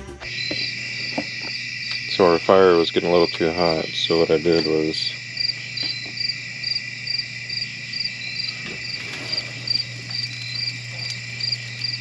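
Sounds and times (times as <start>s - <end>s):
crickets chirping: 0.0s - 12.0s
high insect trill: 0.0s - 12.0s.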